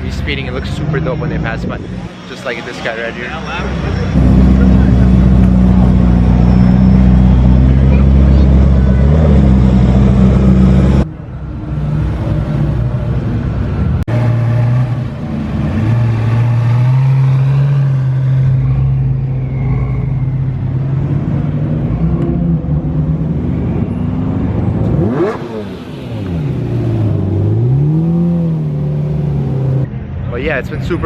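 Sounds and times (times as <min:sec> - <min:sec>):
car engines running: 0:00.0 - 0:31.0.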